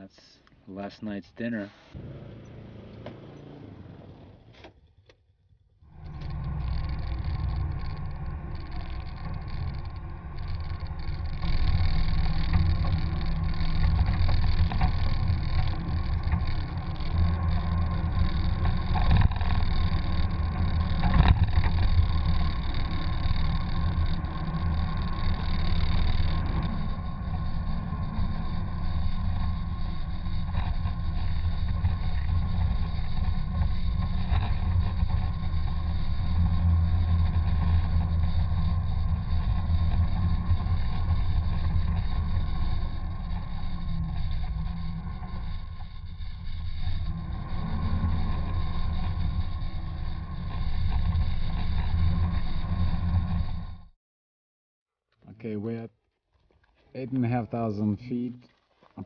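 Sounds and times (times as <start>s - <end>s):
vehicle low rumble: 0.0s - 54.0s.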